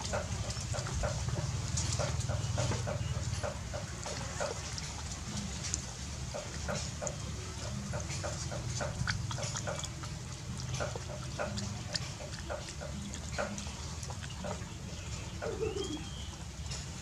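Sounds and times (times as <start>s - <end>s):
puppy lapping and slurping: 0.0s - 17.0s.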